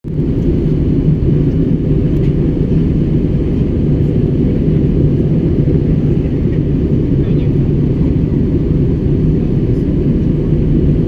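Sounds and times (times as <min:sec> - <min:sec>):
airliner engines and airflow rumble: 0:00.0 - 0:11.0.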